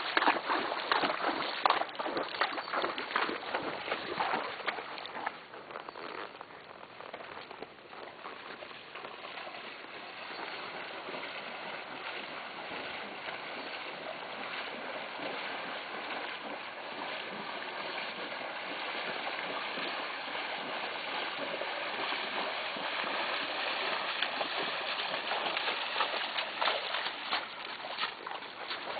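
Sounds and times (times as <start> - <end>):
horses splashing through water: 0.0 - 28.9.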